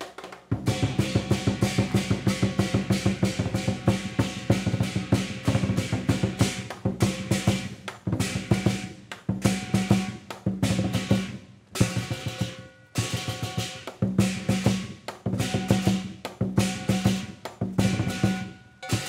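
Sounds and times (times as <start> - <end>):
drum beating fast: 0.0 - 19.0
cymbals crashing: 0.6 - 19.0.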